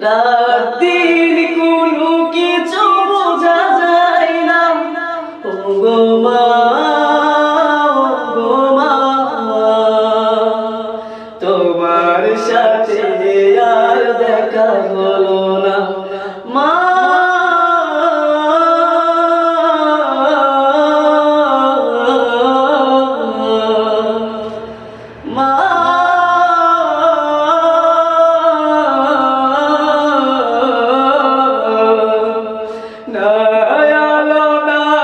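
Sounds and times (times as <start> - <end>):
man singing unaccompanied: 0.0 - 35.0.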